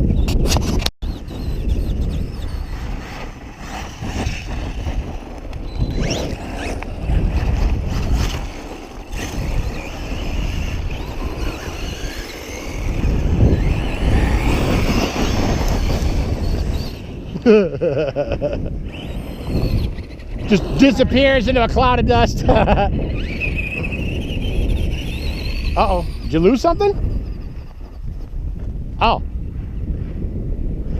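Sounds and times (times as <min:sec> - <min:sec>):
wind buffeting microphone: 0:00.0 - 0:30.9
electric motor whining: 0:01.1 - 0:17.5, 0:18.4 - 0:28.3.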